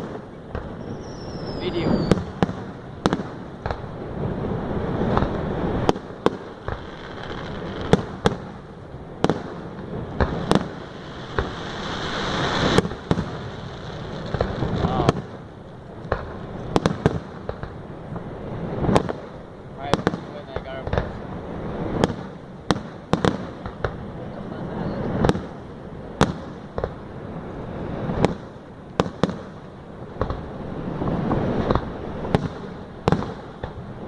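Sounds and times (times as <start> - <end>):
fireworks bangs: 0.0 - 34.0
hissing crackle: 0.0 - 34.0.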